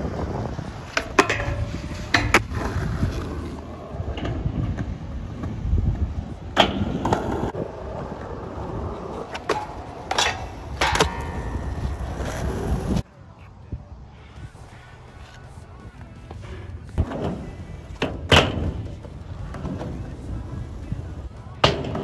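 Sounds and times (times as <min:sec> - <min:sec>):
skateboard wheels rolling on concrete: 0:00.0 - 0:22.0.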